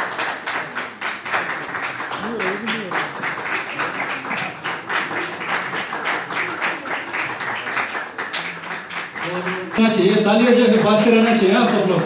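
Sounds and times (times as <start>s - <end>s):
audience clapping: 0.0s - 12.0s
faint voices: 0.0s - 12.0s.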